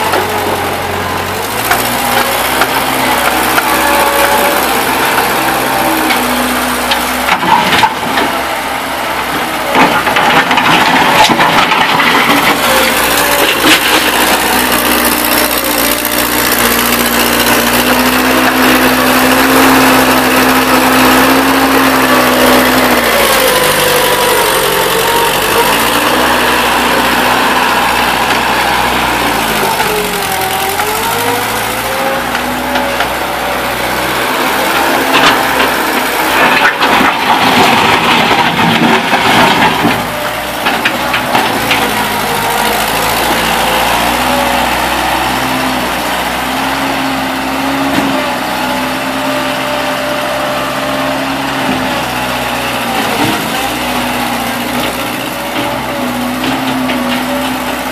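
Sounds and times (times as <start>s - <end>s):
skid steer engine running: 0.0s - 57.9s.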